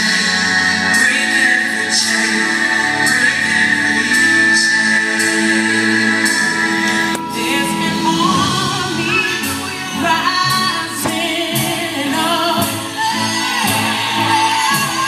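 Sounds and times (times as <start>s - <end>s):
band accompaniment: 0.0s - 15.0s
woman singing with vibrato: 0.0s - 15.0s.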